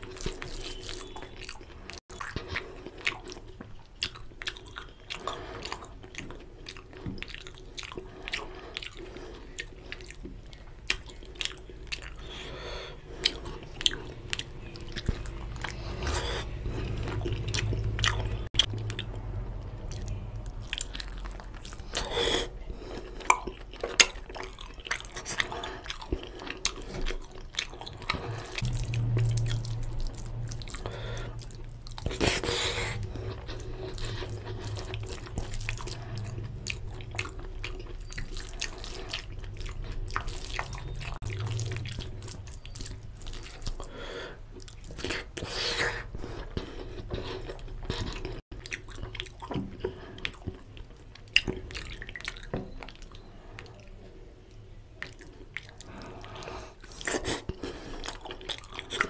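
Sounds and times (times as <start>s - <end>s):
wet chewing and mouth smacking: 0.0s - 59.0s.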